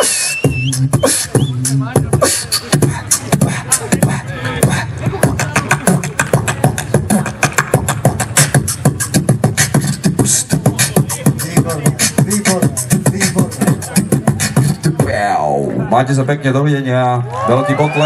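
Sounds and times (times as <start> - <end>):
beatboxing into a microphone: 0.0 - 16.2.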